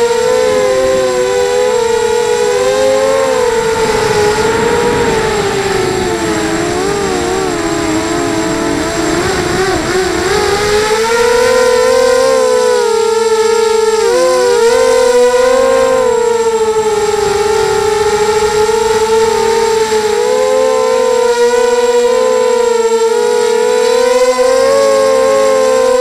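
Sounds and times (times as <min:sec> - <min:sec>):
quadcopter propellers whining: 0:00.0 - 0:26.0.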